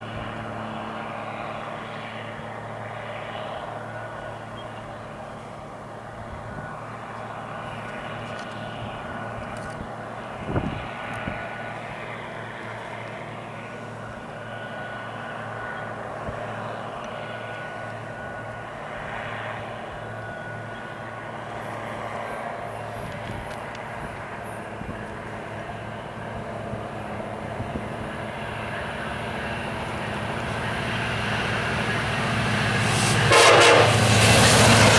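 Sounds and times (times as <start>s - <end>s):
diesel locomotive engine drone: 0.0s - 34.9s.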